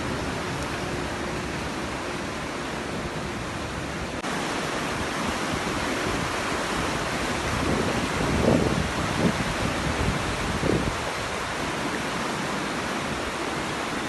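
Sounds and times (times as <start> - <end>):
running water rushing: 0.0 - 14.0
wind buffeting microphone: 0.0 - 14.0.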